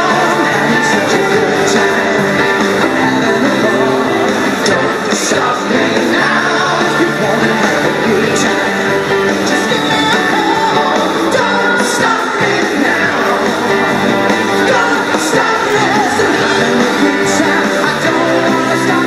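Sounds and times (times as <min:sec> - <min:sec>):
rock song with singing and guitar: 0:00.0 - 0:19.0.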